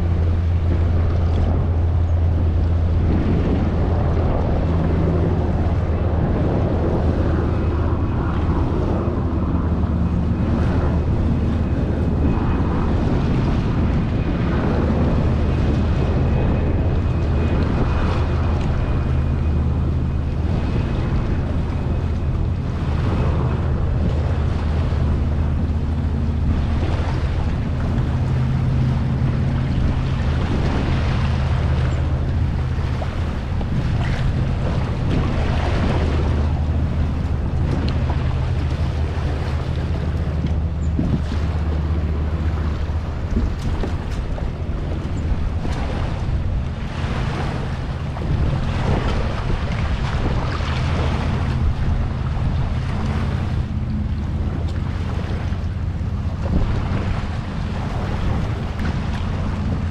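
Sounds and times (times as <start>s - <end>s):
water slapping against kayak: 0.0s - 59.9s
wind buffeting microphone: 0.0s - 59.9s.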